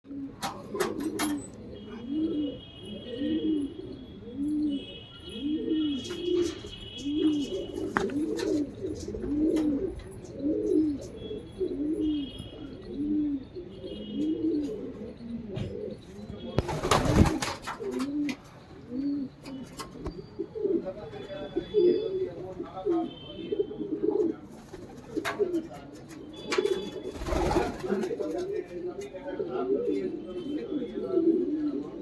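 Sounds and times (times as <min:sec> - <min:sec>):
pigeons cooing: 0:00.1 - 0:32.0.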